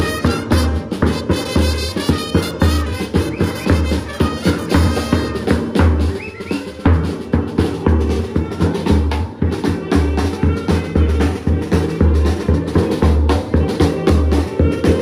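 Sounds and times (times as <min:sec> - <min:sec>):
bass drum beats: 0:00.0 - 0:15.0
snare drum: 0:00.0 - 0:15.0
trumpets and saxophones playing: 0:00.0 - 0:15.0.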